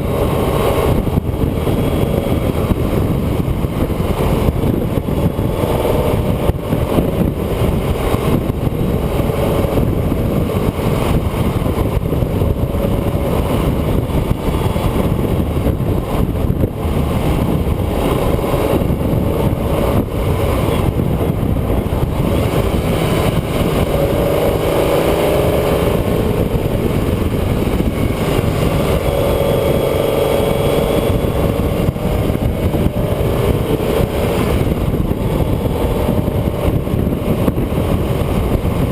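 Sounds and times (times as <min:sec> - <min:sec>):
engine note rising and falling: 0:00.0 - 0:38.9
road rumble: 0:00.0 - 0:38.9
wind noise: 0:00.0 - 0:38.9.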